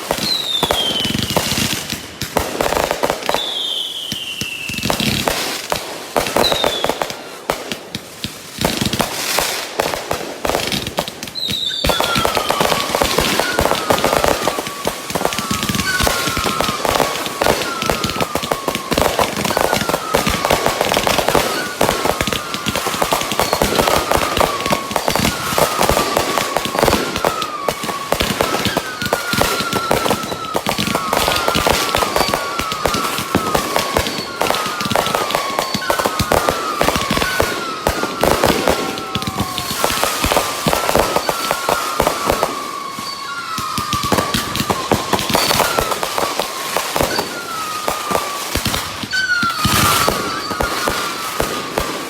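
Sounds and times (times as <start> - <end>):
falling firework whistles: 0.0 - 52.0
fireworks crackling and banging: 0.0 - 52.0.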